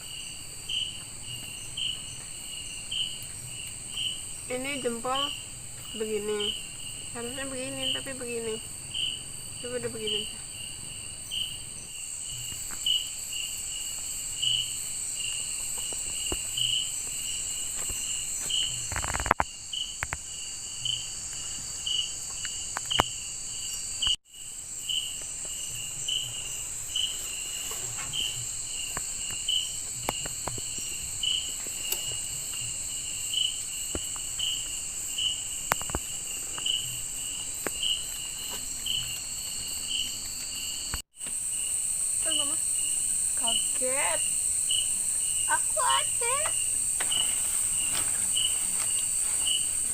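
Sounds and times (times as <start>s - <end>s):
insect chirping: 0.0s - 49.9s
insects buzzing: 0.0s - 49.9s.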